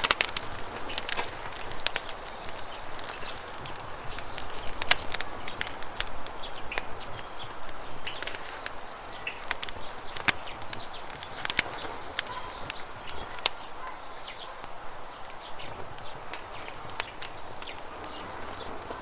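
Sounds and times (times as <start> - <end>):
campfire crackling and popping: 0.0 - 19.0
bird chirps: 0.8 - 19.0.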